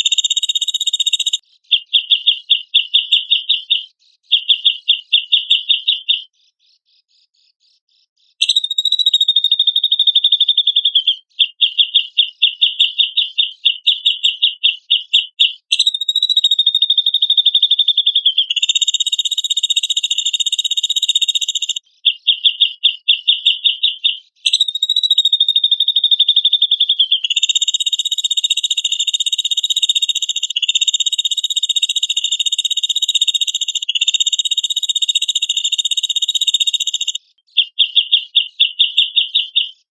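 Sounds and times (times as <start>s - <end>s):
bird song with buzzy trills: 0.0s - 39.9s.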